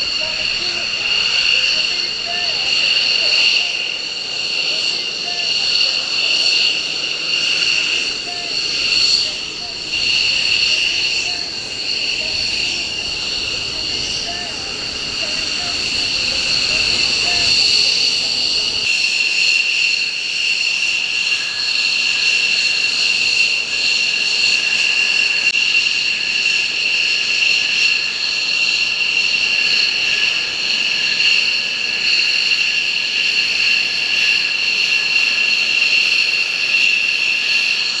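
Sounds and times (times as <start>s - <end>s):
jet engines idling whine: 0.0s - 38.0s.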